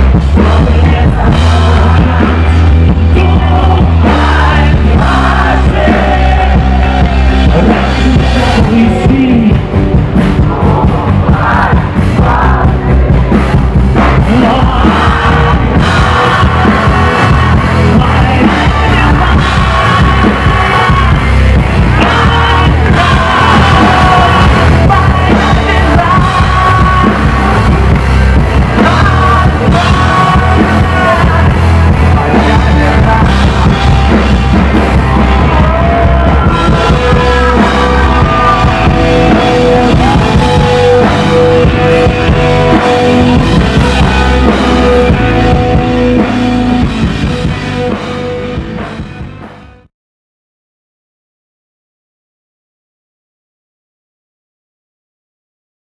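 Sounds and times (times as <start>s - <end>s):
man singing: 0.0s - 48.0s
bass guitar: 0.0s - 49.9s
drums: 0.0s - 49.9s.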